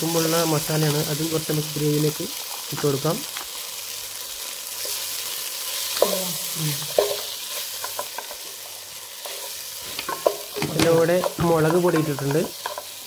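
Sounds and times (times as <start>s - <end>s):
masala sizzling in a pan: 0.0s - 13.0s.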